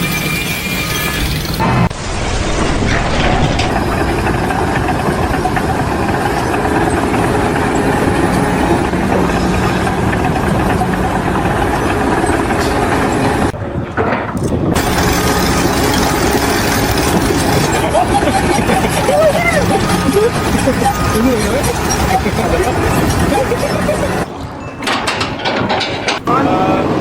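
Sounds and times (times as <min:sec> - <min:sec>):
heavy engine running: 0:00.0 - 0:27.0.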